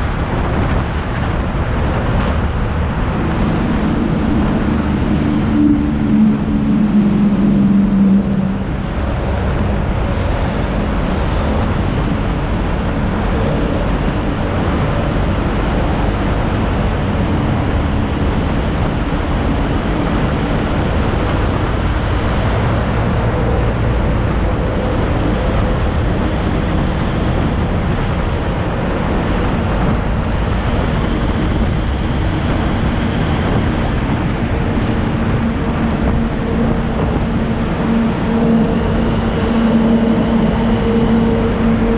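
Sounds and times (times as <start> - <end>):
motorcycle engine hum: 0.0 - 41.9
road noise: 0.0 - 41.9
wind rush: 0.0 - 41.9.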